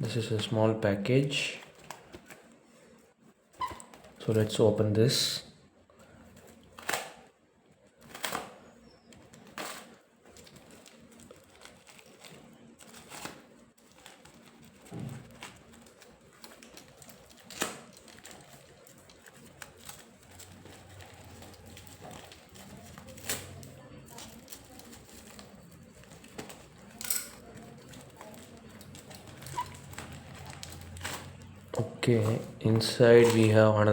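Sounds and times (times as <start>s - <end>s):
packaging scraping and rustling: 6.0s - 33.7s.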